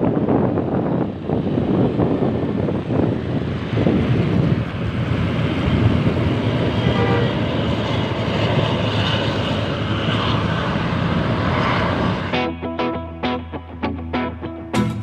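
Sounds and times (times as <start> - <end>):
bus engine rumble and tyre noise: 0.0 - 12.4.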